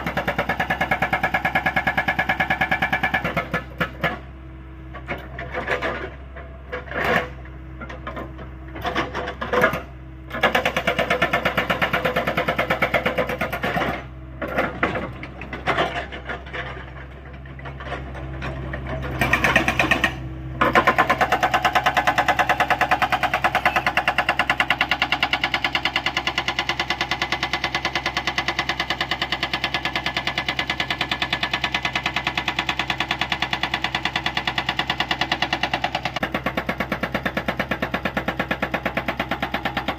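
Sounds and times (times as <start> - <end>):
hydraulic rock breaker hammering: 0.0 - 4.3, 4.9 - 39.9
excavator engine running: 0.0 - 39.9.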